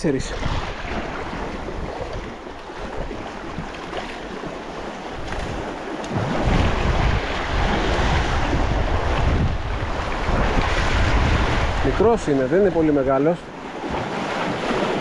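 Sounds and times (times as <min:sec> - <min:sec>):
wind buffeting microphone: 0:00.0 - 0:13.2
sea waves on shore: 0:00.0 - 0:15.0.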